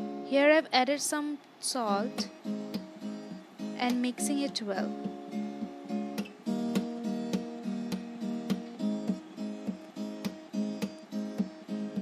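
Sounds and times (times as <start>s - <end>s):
acoustic guitar strumming: 0.0s - 0.6s, 1.8s - 12.0s.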